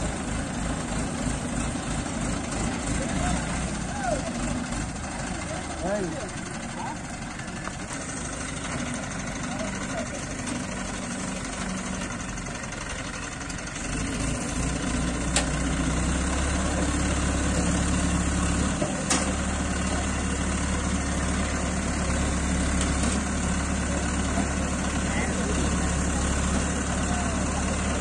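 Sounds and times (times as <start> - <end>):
diesel crane engine running: 0.0 - 28.0.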